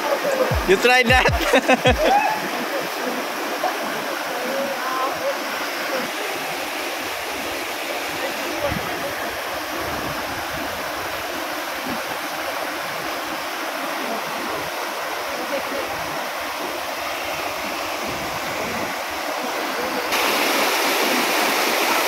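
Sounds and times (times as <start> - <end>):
waterfall and stream rushing: 0.0 - 22.0.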